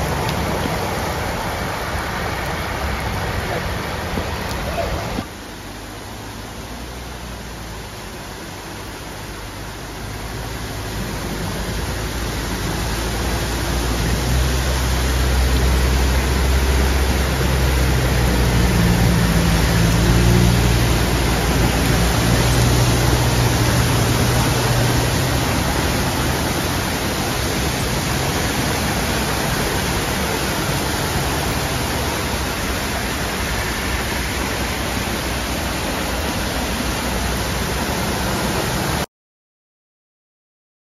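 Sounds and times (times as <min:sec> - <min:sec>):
cars driving through water: 0:00.0 - 0:39.1
heavy rain hissing on road: 0:00.0 - 0:39.1.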